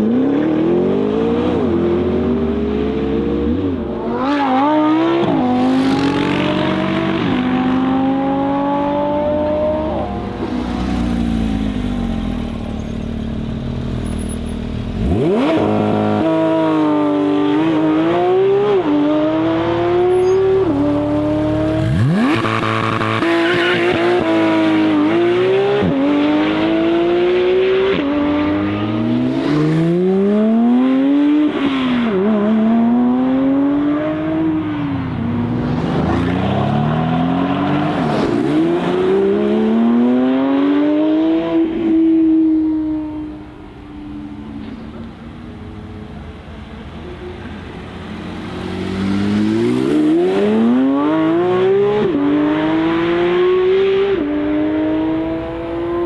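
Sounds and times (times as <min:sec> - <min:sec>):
sports car engines accelerating: 0:00.0 - 0:56.0.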